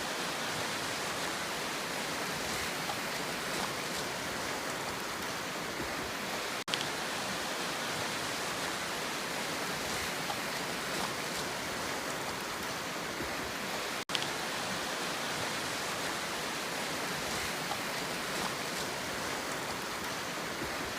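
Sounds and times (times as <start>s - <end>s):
sea surf rushing: 0.0s - 20.9s.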